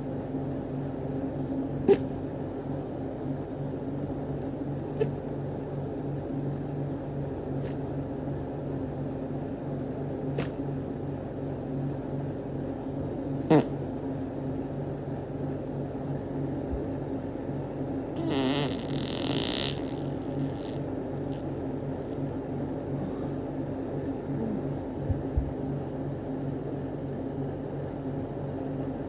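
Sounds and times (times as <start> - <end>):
steady low appliance hum: 0.0 - 29.0.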